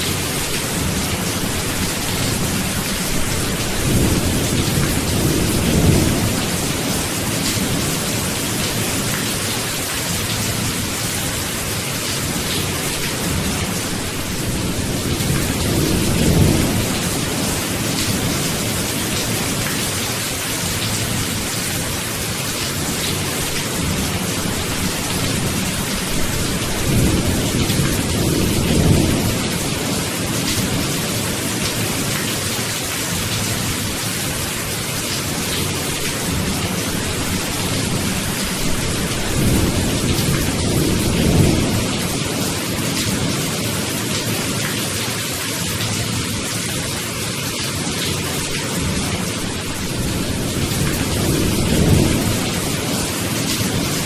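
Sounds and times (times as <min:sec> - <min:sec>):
thunder rumbling: 0:00.0 - 0:11.1, 0:12.2 - 0:32.2, 0:35.6 - 0:43.5, 0:48.6 - 0:54.0
heavy rain: 0:00.0 - 0:54.0.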